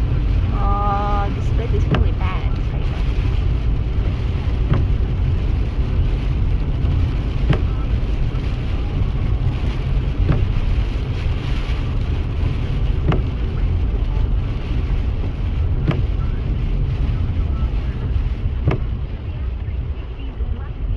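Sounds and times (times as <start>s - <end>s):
rain falling: 0.0s - 20.9s
wind rumbling over microphone: 0.0s - 20.9s.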